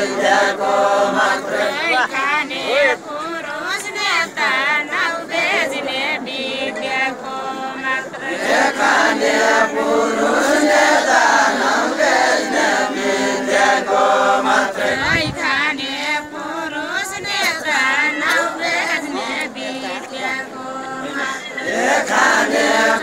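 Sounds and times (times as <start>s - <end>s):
group singing without instruments: 0.0s - 23.0s.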